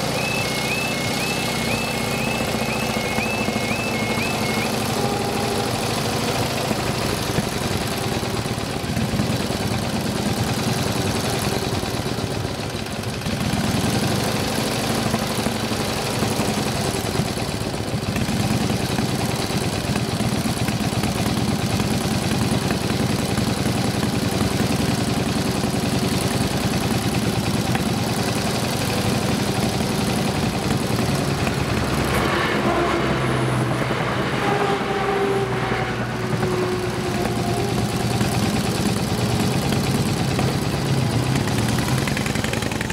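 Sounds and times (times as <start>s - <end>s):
diesel train passing: 0.0s - 14.5s, 15.2s - 42.9s
motorcycle engine idling: 0.0s - 32.1s, 36.2s - 42.9s.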